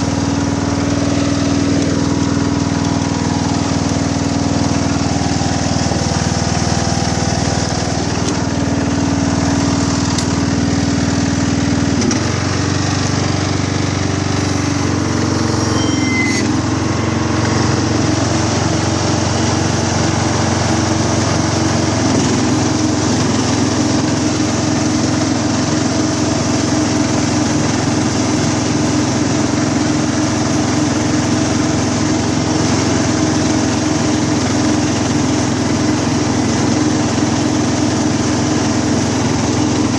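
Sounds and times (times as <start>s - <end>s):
ride-on mower running: 0.0s - 39.9s.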